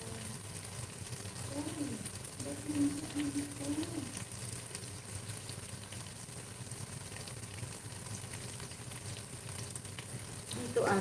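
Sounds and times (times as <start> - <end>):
chicken sizzling and bubbling in pan: 0.0 - 11.0.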